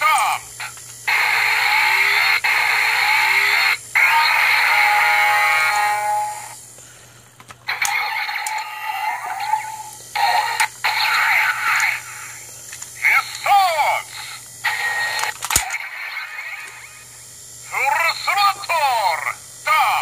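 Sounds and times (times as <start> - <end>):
toy electronic sound effects: 0.0 - 6.6, 7.6 - 20.0.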